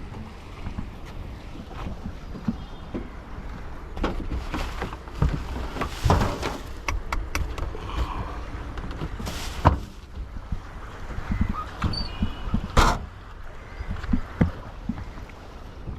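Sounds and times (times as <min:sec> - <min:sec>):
wind rumbling on microphone: 0:00.0 - 0:15.9.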